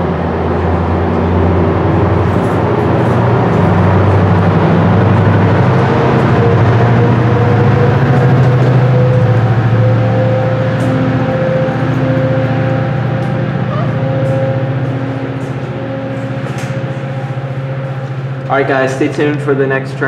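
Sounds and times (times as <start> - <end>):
diesel locomotive engine: 0.0 - 20.0
train coaches rumbling on rails: 0.0 - 20.0.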